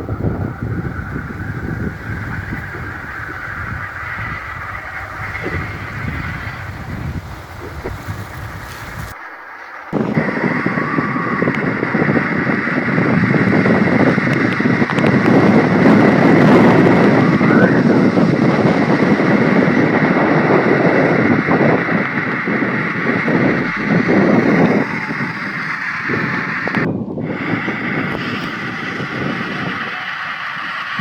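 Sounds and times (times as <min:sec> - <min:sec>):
strong wind blowing: 0:00.0 - 0:31.0.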